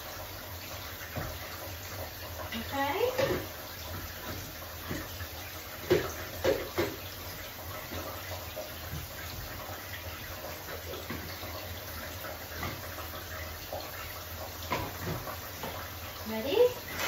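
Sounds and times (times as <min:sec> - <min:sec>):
tap water running: 0:00.0 - 0:17.0.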